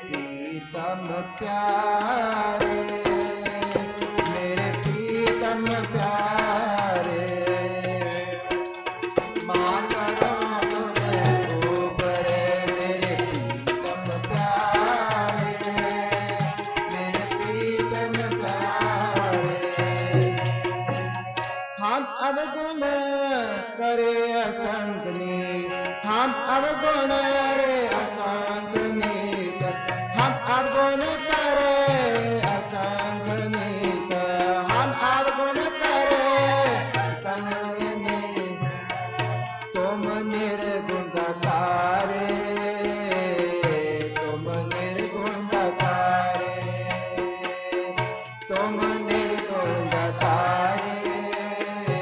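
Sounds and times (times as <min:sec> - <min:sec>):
man singing a hymn: 0:00.0 - 0:21.0, 0:21.8 - 0:52.0
harmonium: 0:00.0 - 0:52.0
tabla beat: 0:01.8 - 0:23.3, 0:24.0 - 0:52.0.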